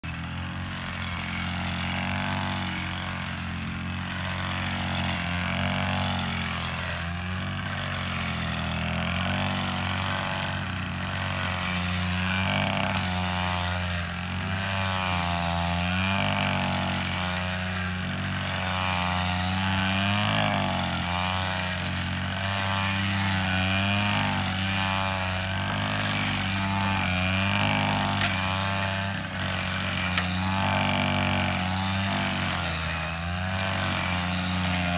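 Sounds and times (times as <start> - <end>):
brush cutter cutting grass: 0.0 - 34.9.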